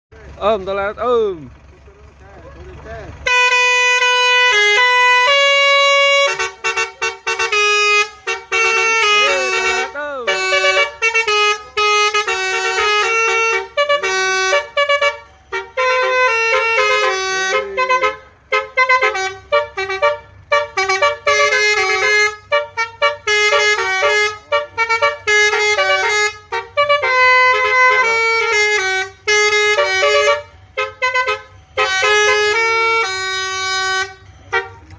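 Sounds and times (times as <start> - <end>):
musical air horns melody: 3.2 - 34.9.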